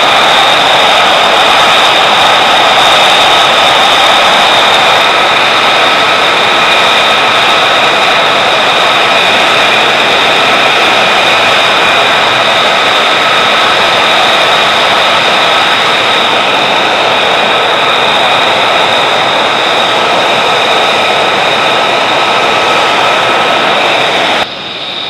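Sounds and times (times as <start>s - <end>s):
jet engine idling: 0.0s - 25.0s.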